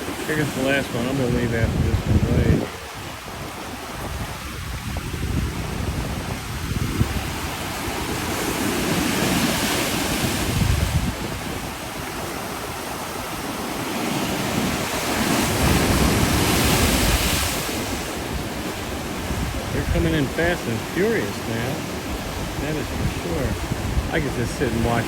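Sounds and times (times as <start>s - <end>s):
ocean waves crashing on rocks: 0.0s - 25.0s
wind buffeting microphone: 0.0s - 25.0s.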